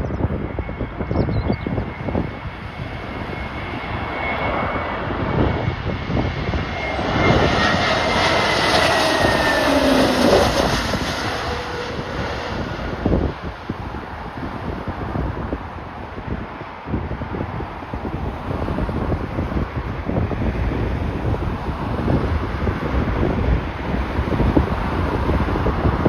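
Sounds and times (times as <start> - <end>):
jet airliner passing: 0.0 - 26.0
wind buffeting microphone: 0.0 - 26.0.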